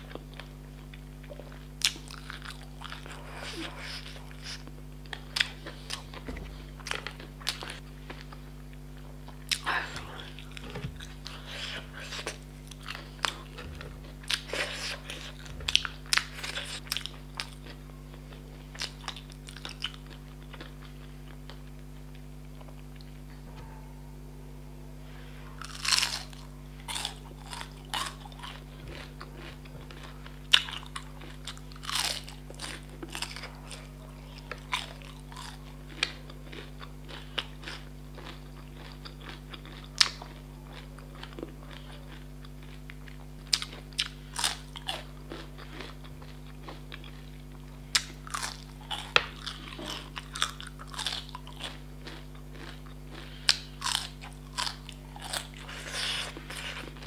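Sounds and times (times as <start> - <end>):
crunchy food biting and chewing: 0.0 - 23.2, 25.6 - 57.0
steady low hum: 0.0 - 57.0.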